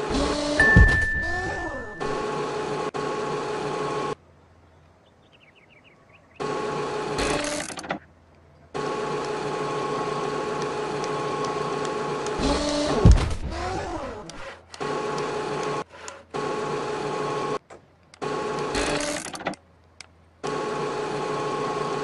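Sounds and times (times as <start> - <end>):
mechanical machine drone: 0.0 - 4.2, 6.3 - 8.1, 8.7 - 19.6, 20.4 - 22.0.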